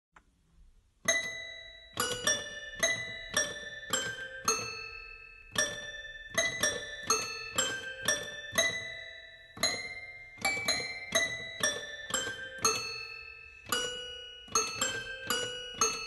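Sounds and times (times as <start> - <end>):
slow piano melody: 1.0 - 16.0.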